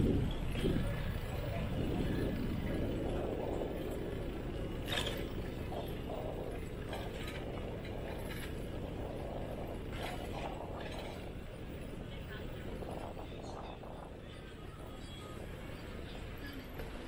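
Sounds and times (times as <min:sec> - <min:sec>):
street noise rumble: 0:00.0 - 0:17.0.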